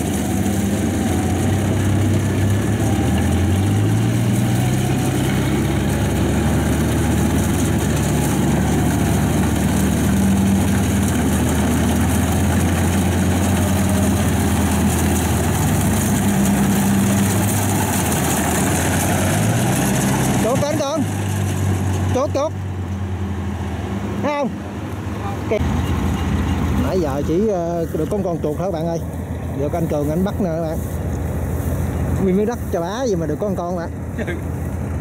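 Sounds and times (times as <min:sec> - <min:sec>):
harvester diesel engine running: 0:00.0 - 0:35.0.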